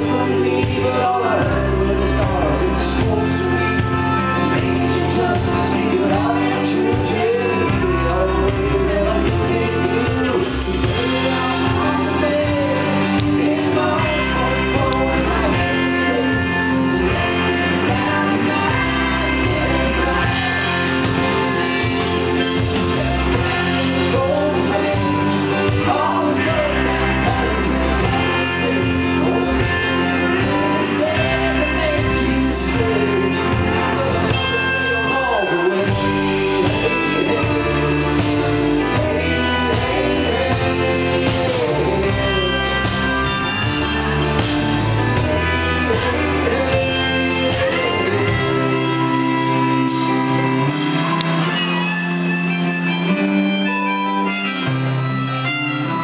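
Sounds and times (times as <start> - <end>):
bass: 0.0 - 56.0
keyboard: 0.0 - 56.0
man singing: 0.0 - 56.0
strummed acoustic guitar: 0.0 - 56.0.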